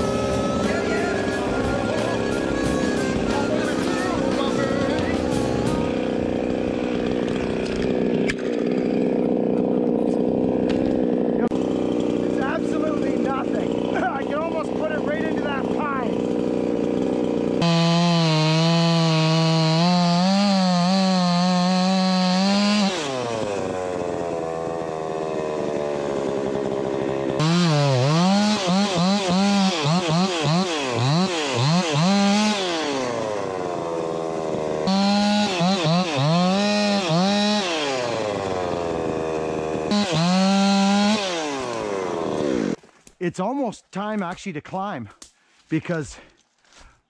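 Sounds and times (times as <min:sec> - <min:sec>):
chainsaw revving and idling: 0:00.0 - 0:42.9.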